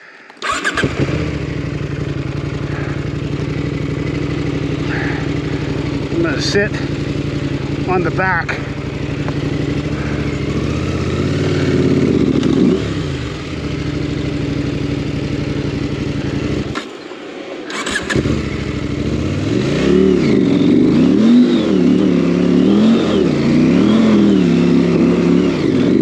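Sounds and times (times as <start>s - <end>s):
motorcycle engine labouring: 0.3s - 26.0s.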